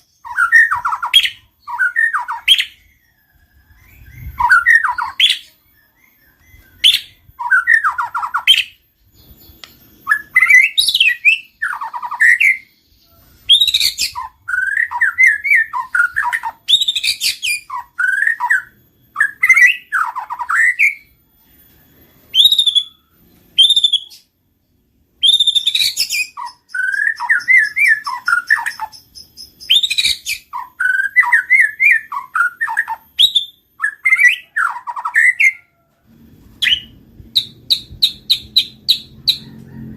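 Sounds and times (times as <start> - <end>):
bird singing varied warbling: 0.0 - 35.8, 36.5 - 39.8.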